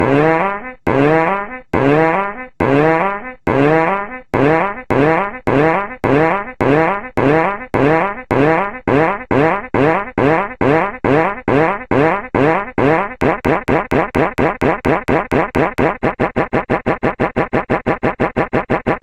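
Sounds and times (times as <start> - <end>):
buzzy fart blasts: 0.0 - 19.0.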